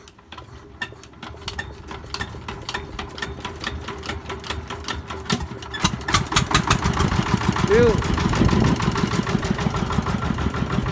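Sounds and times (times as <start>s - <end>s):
tractor motor running: 0.0s - 10.9s.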